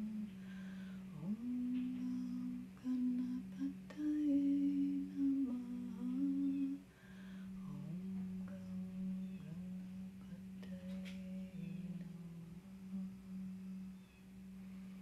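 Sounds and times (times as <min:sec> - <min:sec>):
person humming a slow melody: 0:00.0 - 0:15.0
steady low drone: 0:00.0 - 0:15.0.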